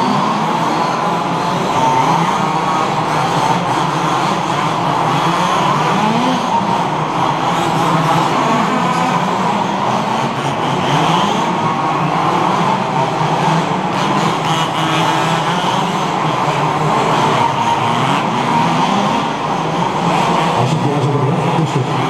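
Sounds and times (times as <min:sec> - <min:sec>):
small two-stroke engines racing: 0:00.0 - 0:22.0.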